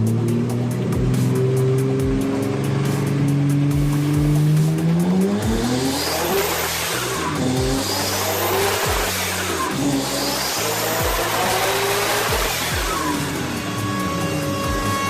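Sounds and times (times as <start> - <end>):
car engine accelerating hard: 0.0 - 15.0
music with steady beat: 0.0 - 15.0.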